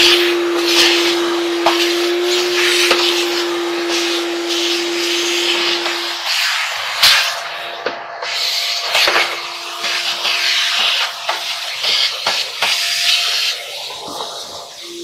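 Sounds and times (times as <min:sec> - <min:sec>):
shop vacuum running: 0:00.0 - 0:15.0.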